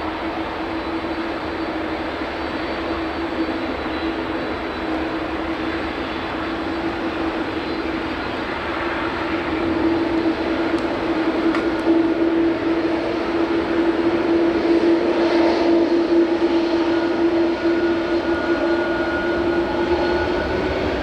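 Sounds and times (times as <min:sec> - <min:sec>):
jet engines taxiing: 0:00.0 - 0:21.0.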